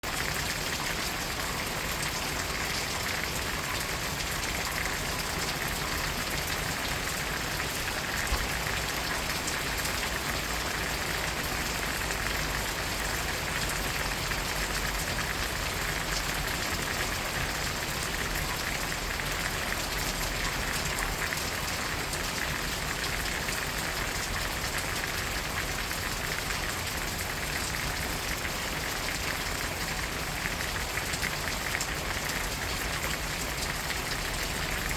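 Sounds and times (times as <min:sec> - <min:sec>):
fine rain falling: 0:00.0 - 0:34.9.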